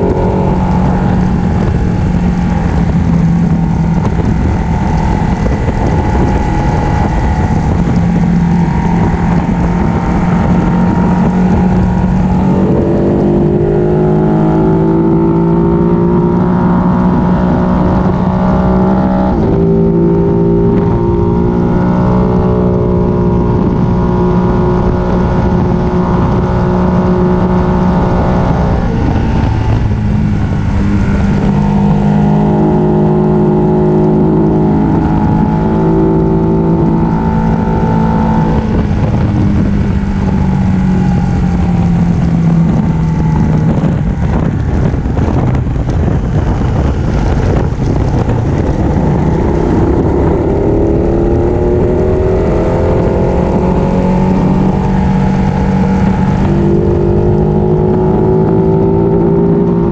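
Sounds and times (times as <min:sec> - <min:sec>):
loud wind rush: 0:00.0 - 0:59.9
motorcycle engine running: 0:00.0 - 0:59.9.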